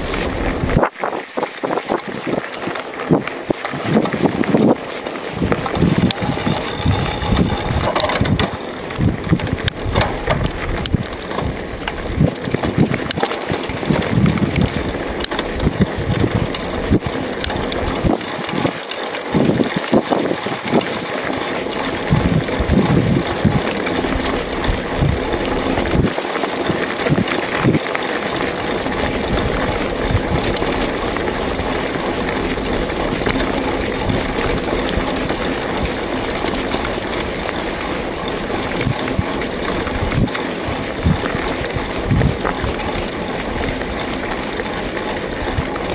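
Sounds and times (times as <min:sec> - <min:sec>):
bike knocking and rattling: 0:00.0 - 0:45.9
tyres rolling on dirt: 0:00.0 - 0:45.9
wind rushing over microphone: 0:00.0 - 0:45.9.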